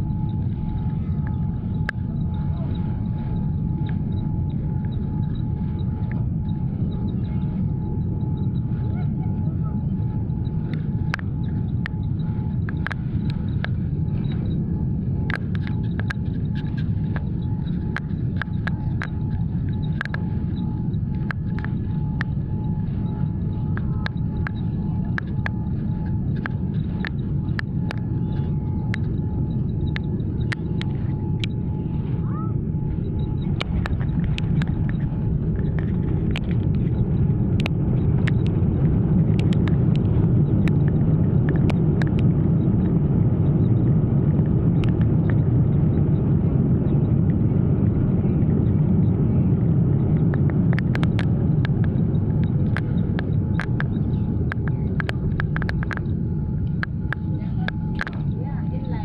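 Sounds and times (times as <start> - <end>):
low rumble of engines and wheels: 0.0 - 59.0.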